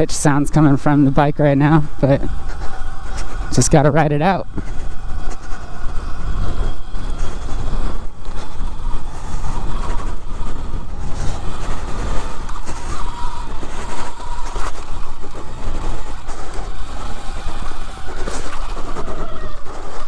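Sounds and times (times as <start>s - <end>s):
electric bike high-pitched whine: 0.0s - 20.0s
wind rumble on helmet microphone: 0.0s - 20.0s.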